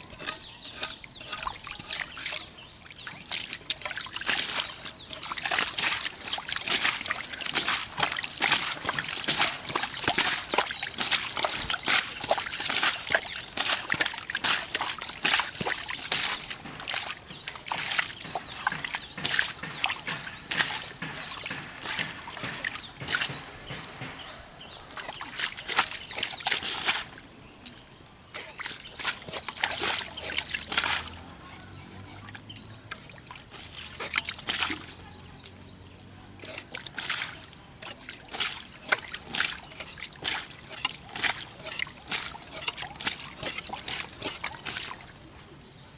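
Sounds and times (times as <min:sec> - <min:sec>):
water trickling: 0:00.0 - 0:45.2
muddy water splashing: 0:00.0 - 0:45.6.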